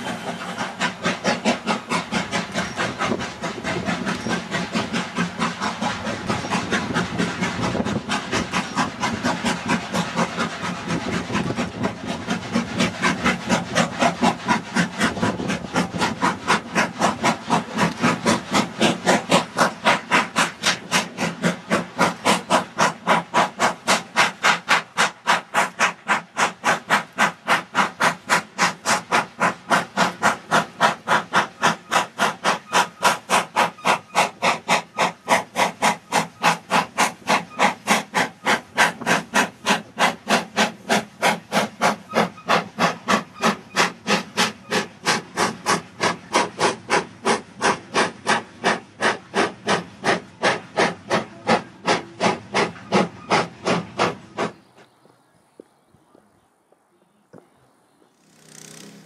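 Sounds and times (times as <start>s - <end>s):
steam locomotive exhaust beats: 0.0s - 59.0s.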